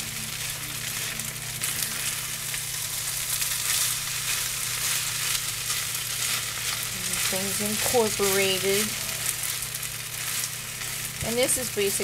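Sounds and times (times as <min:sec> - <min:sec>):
food sizzling in a frying pan: 0:00.0 - 0:12.0
steady low hum: 0:00.0 - 0:12.0.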